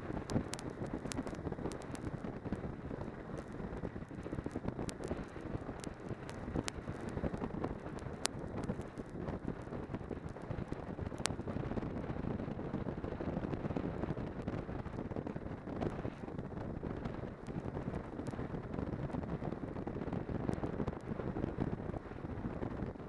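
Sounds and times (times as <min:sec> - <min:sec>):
snowmobile engine rumble: 0:00.0 - 0:23.0
wind buffeting microphone: 0:00.0 - 0:23.0.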